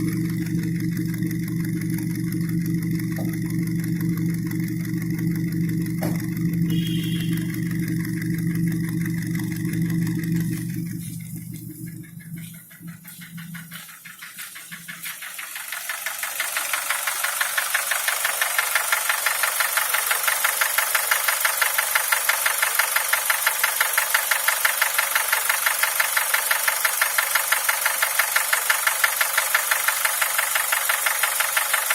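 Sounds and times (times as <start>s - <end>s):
engine running: 0.0s - 31.9s
rapid engine knock: 0.0s - 31.9s.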